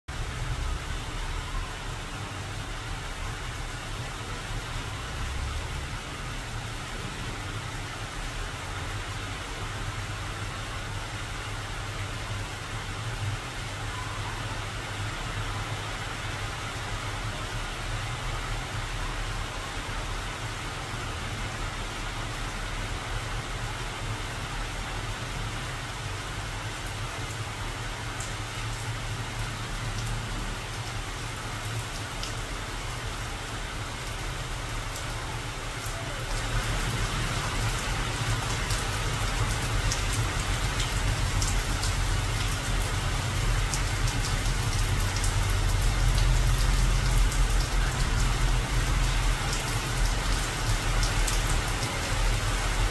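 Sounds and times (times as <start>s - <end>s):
rain on foliage: 0.1s - 52.9s.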